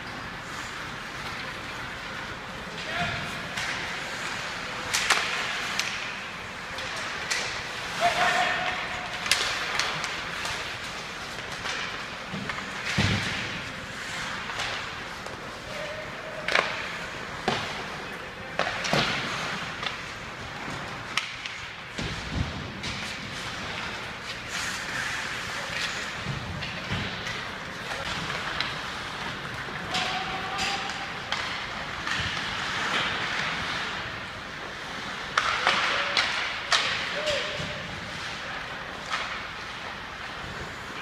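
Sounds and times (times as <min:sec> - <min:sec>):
skates scraping on ice: 0:00.0 - 0:41.0
pucks and sticks knocking: 0:02.2 - 0:41.0.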